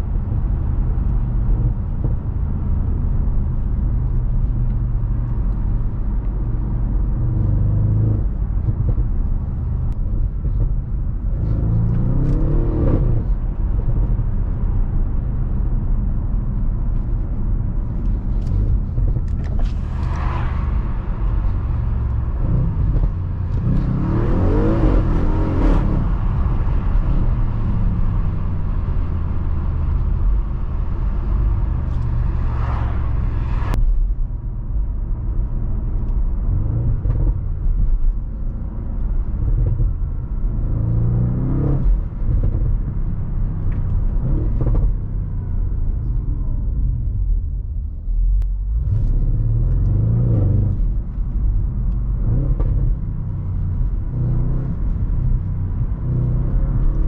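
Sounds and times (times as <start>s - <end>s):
car engine accelerating: 0.0s - 57.0s
low road rumble: 0.0s - 57.0s.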